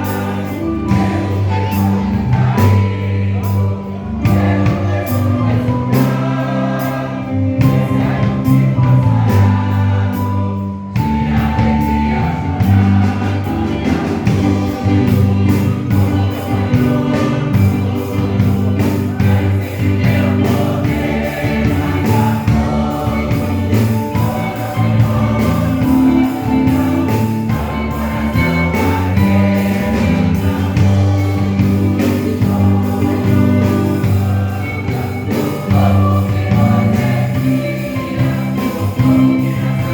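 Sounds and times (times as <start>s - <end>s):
choir singing gospel song: 0.0s - 39.9s
instrumental backing with bass: 0.0s - 39.9s.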